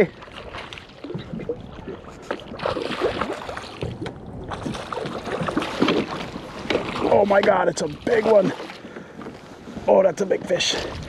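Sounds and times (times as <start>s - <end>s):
wind on the microphone: 0.0s - 8.7s, 9.6s - 11.0s
water splashing against a kayak hull: 0.0s - 11.0s.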